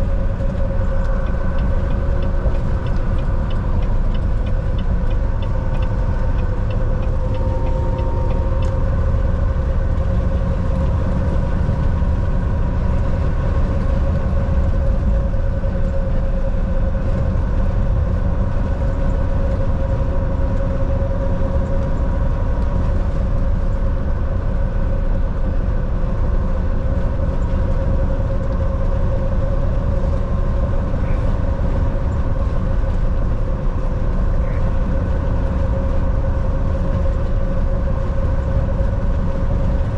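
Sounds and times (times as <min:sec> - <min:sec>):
steady hum: 0:00.0 - 0:39.9
truck engine and road rumble: 0:00.0 - 0:39.9.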